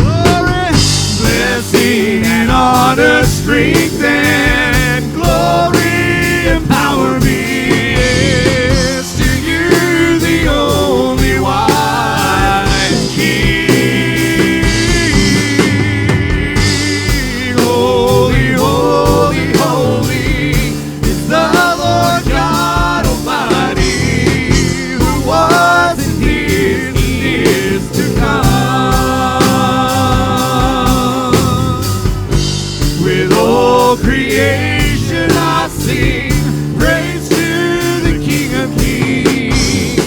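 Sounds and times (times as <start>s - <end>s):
live band playing: 0.0s - 40.0s
steady drum beat: 0.0s - 40.0s
wavering lead melody: 0.7s - 40.0s.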